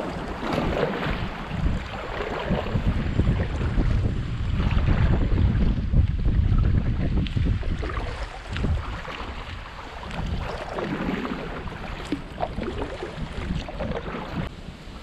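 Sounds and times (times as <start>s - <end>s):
water splashing around paddles: 0.0s - 15.0s
wind buffeting microphone: 0.0s - 15.0s.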